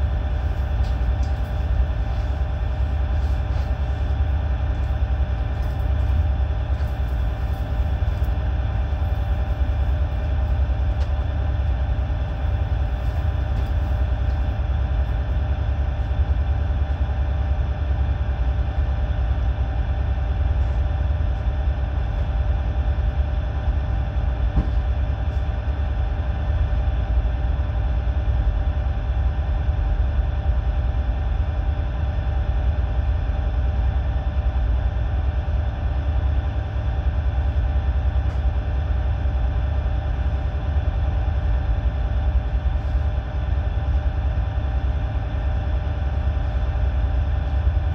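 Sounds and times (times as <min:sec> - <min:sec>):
machinery hum: 0:00.0 - 0:47.9.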